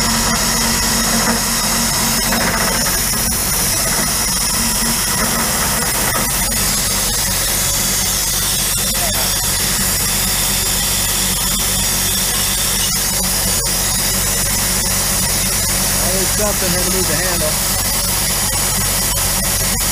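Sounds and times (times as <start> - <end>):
coolant mist hissing: 0.0 - 19.9
milling machine motor hum: 0.0 - 19.9.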